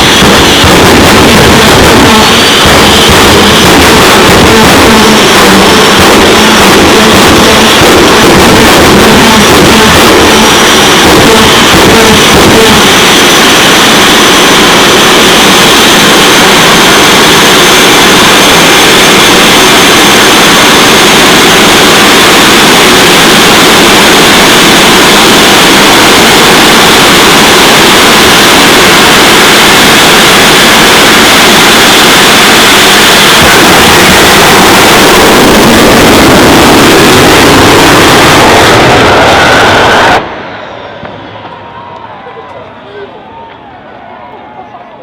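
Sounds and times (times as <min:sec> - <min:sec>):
jet engine roaring: 0:00.0 - 0:44.0
faint high whine: 0:00.0 - 0:45.0.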